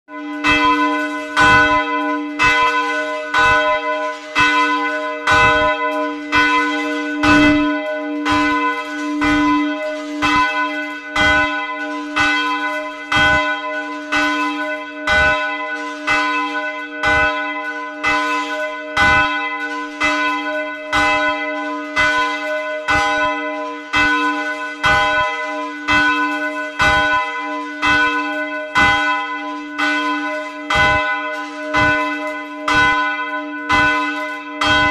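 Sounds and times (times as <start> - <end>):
church bell ringing: 0.1 - 34.9.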